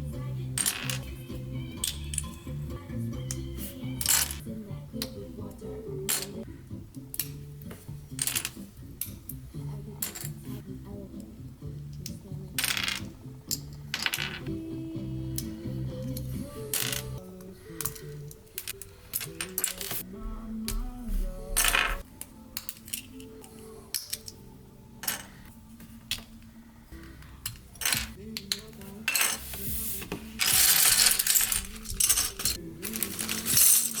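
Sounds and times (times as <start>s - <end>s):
soft background music: 0.0s - 34.0s.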